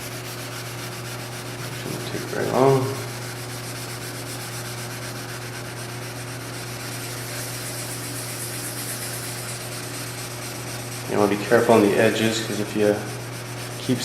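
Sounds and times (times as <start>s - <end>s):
sandpaper sanding paint: 0.0s - 14.0s
steady low hum: 0.0s - 14.0s.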